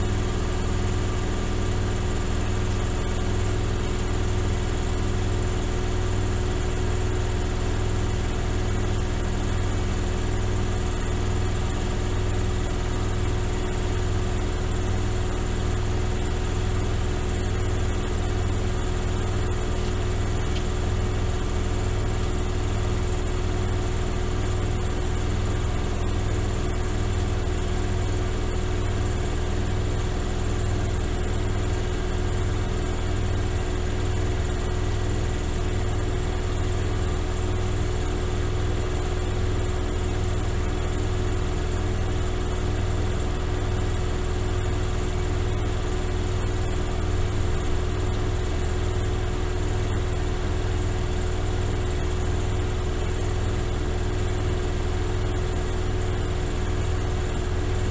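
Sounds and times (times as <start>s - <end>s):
washing machine motor hum: 0.0s - 57.9s.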